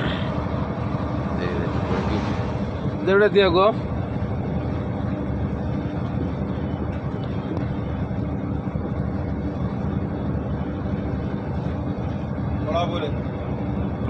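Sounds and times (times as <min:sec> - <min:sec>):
constant low hum: 0:00.0 - 0:14.0
road noise: 0:00.0 - 0:14.0
truck engine drone: 0:00.0 - 0:14.0.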